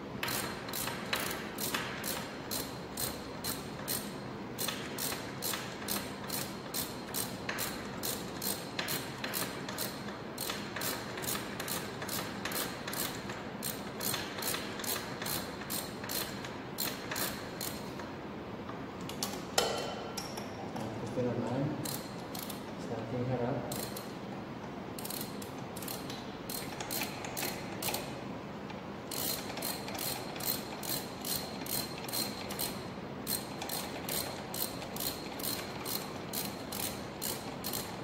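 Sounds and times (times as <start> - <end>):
ratchet wrench clicking: 0.2 - 18.1, 21.8 - 22.6, 23.7 - 24.1, 25.0 - 28.1, 29.1 - 38.0.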